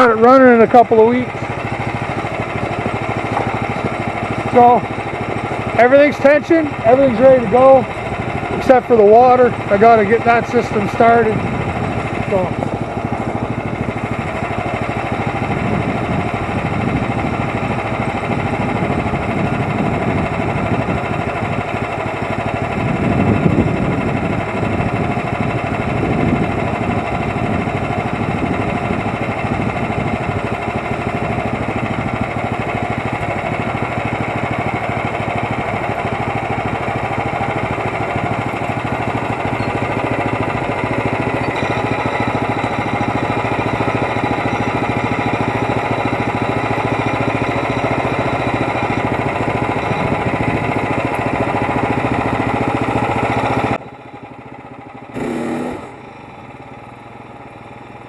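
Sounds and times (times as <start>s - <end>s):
sawmill gas engine running: 0.0s - 58.0s.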